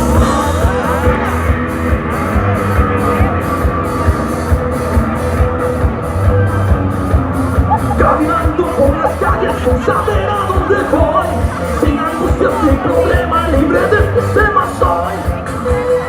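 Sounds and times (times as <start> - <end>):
drum kit beat: 0.0 - 16.0
rock band playing live: 0.0 - 16.0.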